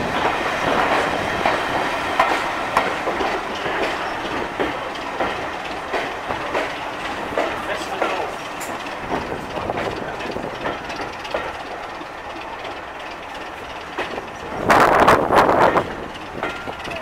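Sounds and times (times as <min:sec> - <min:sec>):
train wheels rolling rumble: 0:00.0 - 0:17.0
clicks over rail joints: 0:00.2 - 0:17.0.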